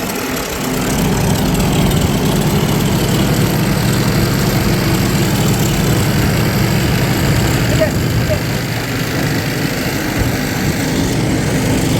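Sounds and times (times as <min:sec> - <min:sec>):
engine running steadily: 0:00.0 - 0:11.9.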